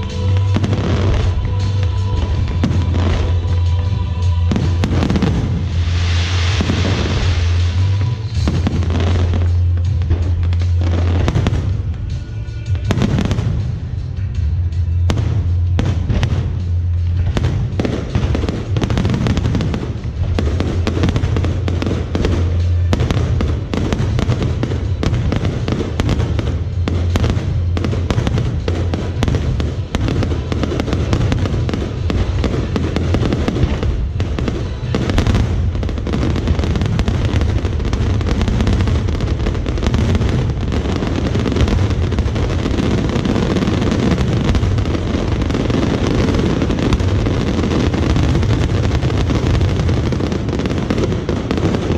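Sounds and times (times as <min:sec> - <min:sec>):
background music: 0:00.0 - 0:51.9
fireworks bangs and crackles: 0:00.0 - 0:51.9.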